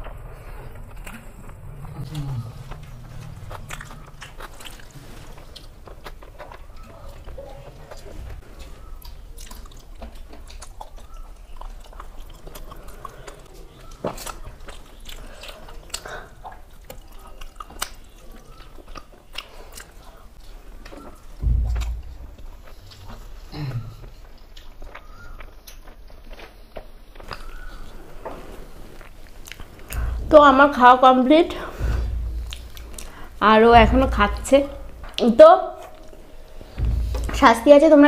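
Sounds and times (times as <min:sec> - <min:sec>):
chewing and mouth smacks: 0:00.0 - 0:30.2, 0:32.0 - 0:33.4.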